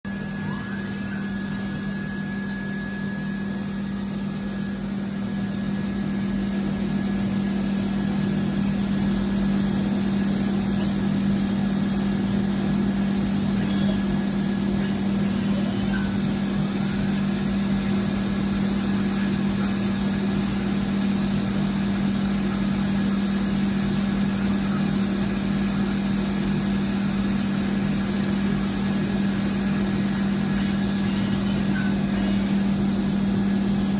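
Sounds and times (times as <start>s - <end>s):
grinding machine humming and whining: 0.0s - 33.9s.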